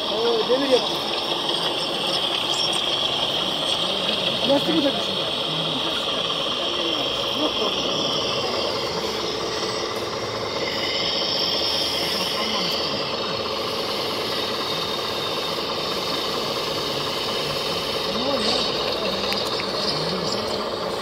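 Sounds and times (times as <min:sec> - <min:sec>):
faint voices: 0:00.0 - 0:21.0
small electric motors whining: 0:00.0 - 0:21.0.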